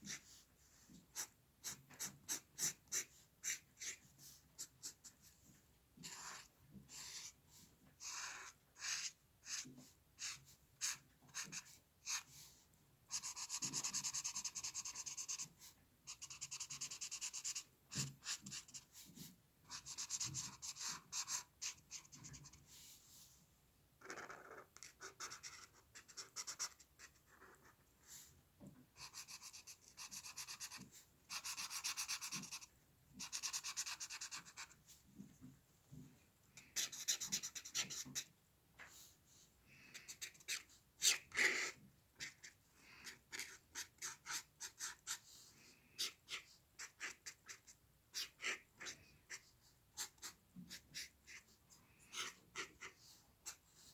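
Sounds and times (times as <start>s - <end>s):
pencil scratching on paper: 0.0s - 5.4s, 6.0s - 23.3s, 24.0s - 28.3s, 29.0s - 35.0s, 36.6s - 38.3s, 40.0s - 53.9s.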